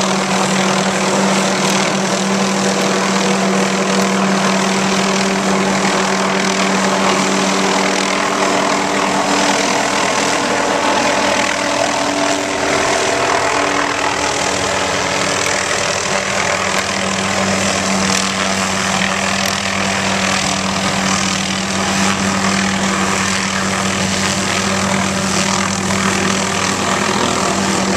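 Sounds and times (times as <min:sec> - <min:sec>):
helicopter engine and rotor drone: 0:00.0 - 0:27.9.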